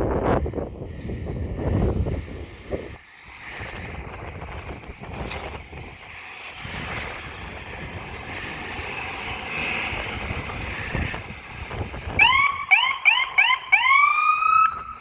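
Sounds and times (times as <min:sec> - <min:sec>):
road traffic rumble: 0:00.0 - 0:15.0
wind buffeting microphone: 0:00.0 - 0:15.0.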